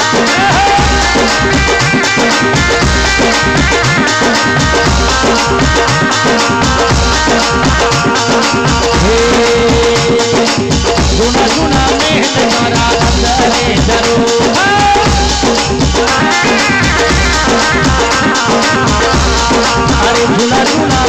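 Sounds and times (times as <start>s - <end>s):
melody of long bending notes: 0.0s - 11.8s, 15.0s - 21.0s
drum and rattle percussion: 0.0s - 21.0s.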